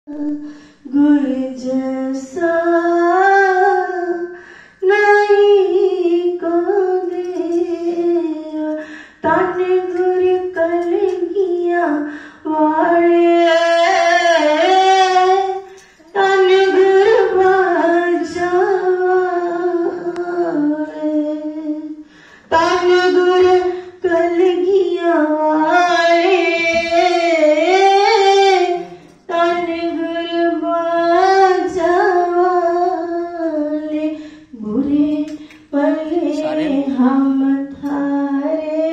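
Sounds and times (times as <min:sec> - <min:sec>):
woman singing a hymn: 0:00.1 - 0:38.9.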